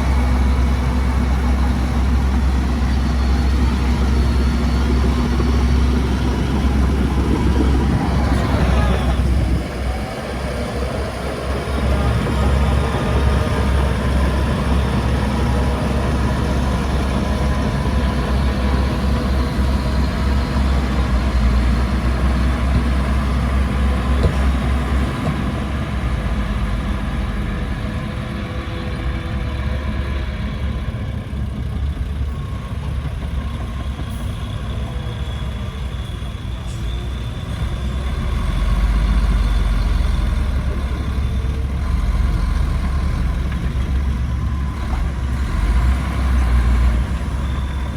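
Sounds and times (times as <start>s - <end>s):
diesel construction machinery running: 0.0s - 47.9s.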